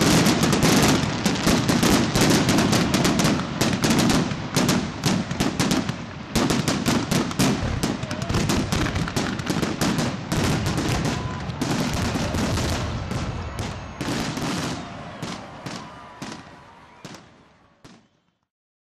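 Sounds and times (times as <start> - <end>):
fireworks bangs and crackles: 0.0 - 18.3.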